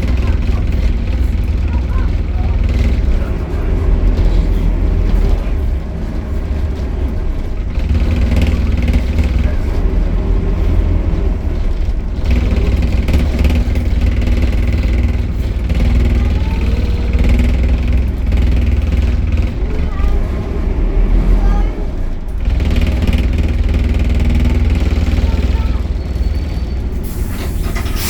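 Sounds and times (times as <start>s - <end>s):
bus diesel engine droning: 0.0s - 28.0s.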